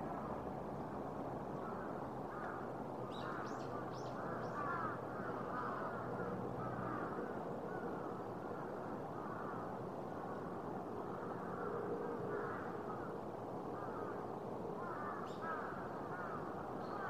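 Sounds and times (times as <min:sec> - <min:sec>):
city ambience hum: 0:00.0 - 0:17.0.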